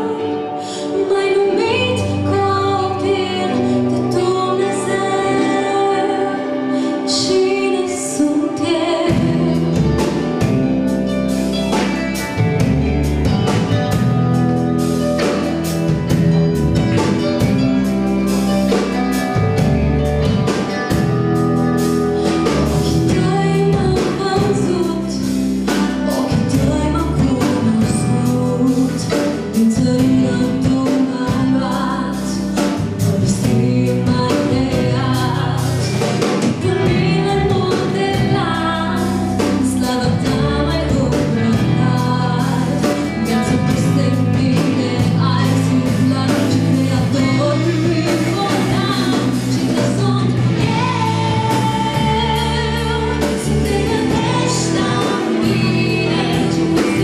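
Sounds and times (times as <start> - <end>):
woman singing: 0.0 - 17.9, 21.8 - 57.0
bass guitar: 0.0 - 57.0
drum kit: 0.0 - 57.0
electric guitar: 0.0 - 57.0
keyboard: 0.0 - 57.0.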